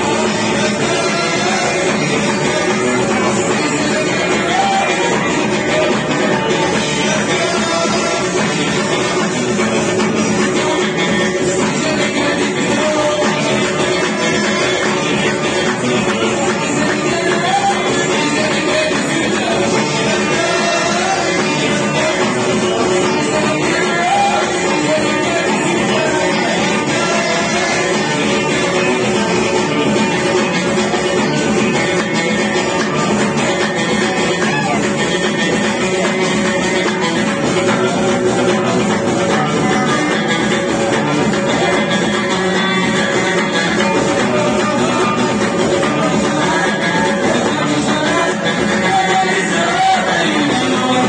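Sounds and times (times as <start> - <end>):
banjo: 0.0 - 51.0
electric guitar: 0.0 - 51.0
frame drums beat: 0.0 - 51.0
man singing: 0.0 - 51.0.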